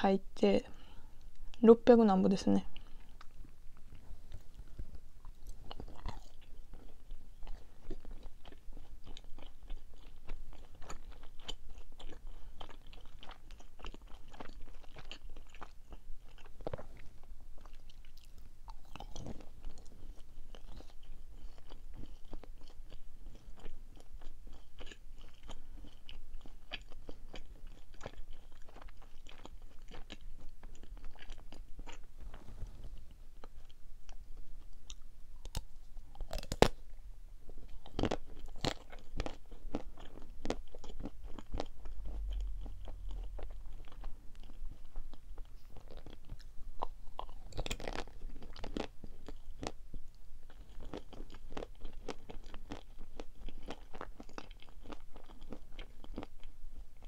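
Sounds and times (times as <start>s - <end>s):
chewing crunchy sweets: 2.6s - 57.0s.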